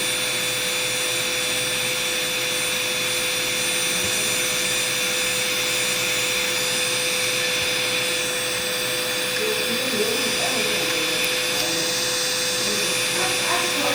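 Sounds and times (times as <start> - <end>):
electric foot-care drill whining: 0.0 - 13.9.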